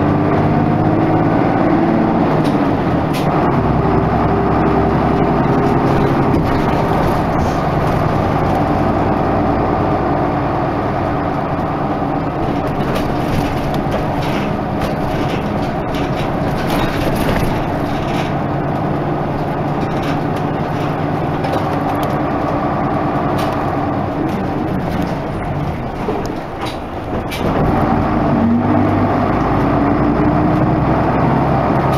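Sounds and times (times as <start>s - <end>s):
bus diesel engine running: 0.0s - 31.9s.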